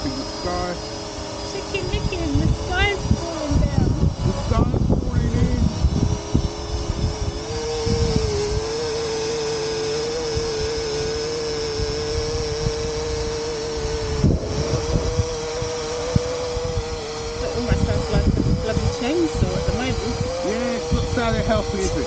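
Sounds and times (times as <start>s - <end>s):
drone propellers humming: 0.0s - 22.0s
wind buffeting microphone: 0.0s - 22.0s.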